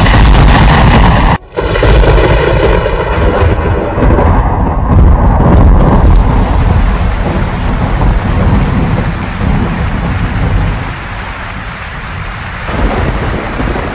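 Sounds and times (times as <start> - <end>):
deep thunder rumble: 0.0 - 13.9
heavy rain: 0.0 - 13.9.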